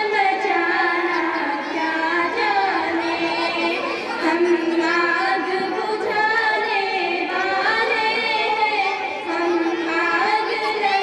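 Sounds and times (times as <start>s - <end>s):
girls singing into microphones: 0.0s - 11.0s.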